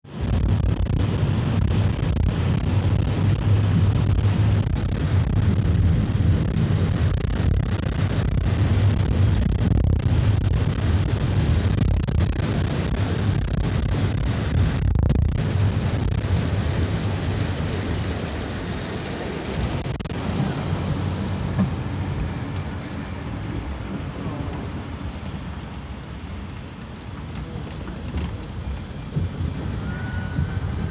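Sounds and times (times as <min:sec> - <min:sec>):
heavy rain: 0:00.0 - 0:30.9
low rolling thunder rumble: 0:00.1 - 0:30.9
moving minibus: 0:00.1 - 0:30.9.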